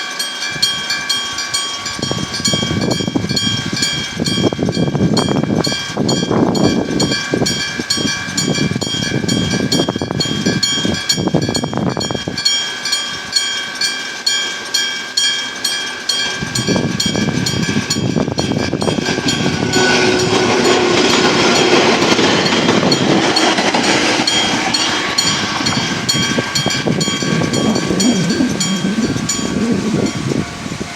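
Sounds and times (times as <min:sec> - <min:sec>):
crossing bell ringing: 0:00.0 - 0:30.9
train rumbling and clattering: 0:00.0 - 0:30.9.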